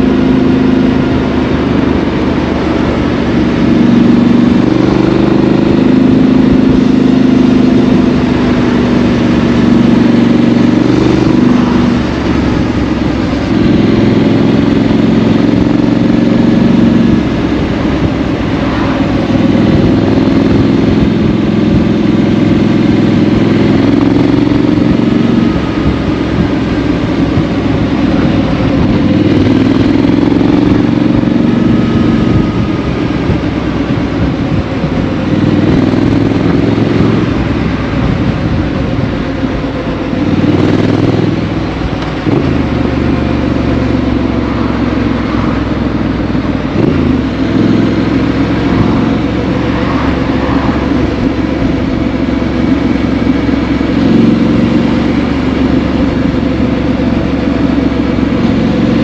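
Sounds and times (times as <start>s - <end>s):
motorcycle engine riding: 0.0s - 59.0s.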